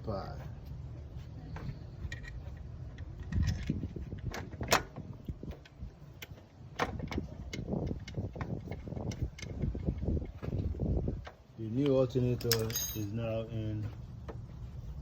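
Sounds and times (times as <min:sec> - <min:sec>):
hand tools clicking and clanking: 0:01.6 - 0:13.9.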